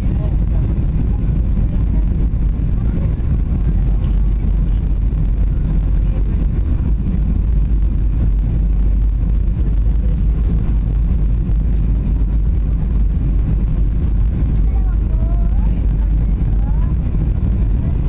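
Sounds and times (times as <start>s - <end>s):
airliner low rumble: 0.0s - 18.0s.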